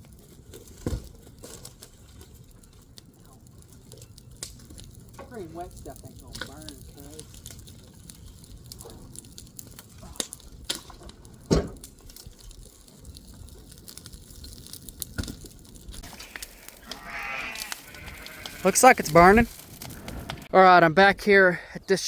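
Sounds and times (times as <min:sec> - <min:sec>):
brush fire crackling and popping: 0:00.0 - 0:21.8.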